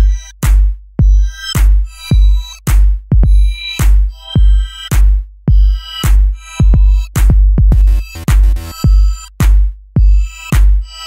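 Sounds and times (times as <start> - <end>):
deep kick drum: 0.0 - 10.9
synth chords: 0.0 - 11.0.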